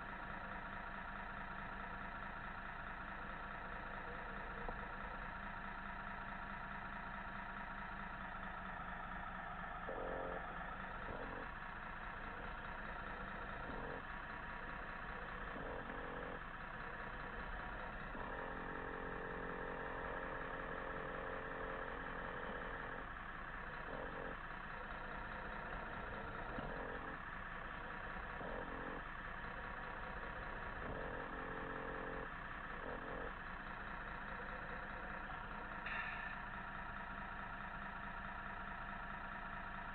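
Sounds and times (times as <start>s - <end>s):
simulated diesel engine idling: 0.0s - 39.9s.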